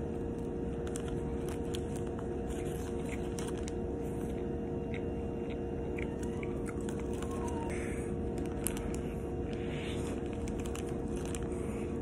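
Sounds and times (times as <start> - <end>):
low hum: 0.0 - 12.0
person chewing bread: 0.0 - 12.0.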